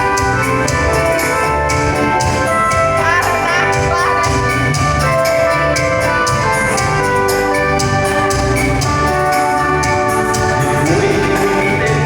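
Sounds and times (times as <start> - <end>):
live band instrumental: 0.0 - 12.0
steady drum beat: 0.0 - 12.0.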